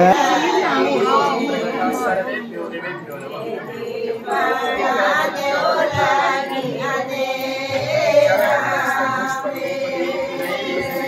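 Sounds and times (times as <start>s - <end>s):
women singing folk song: 0.1s - 2.6s, 3.2s - 11.0s.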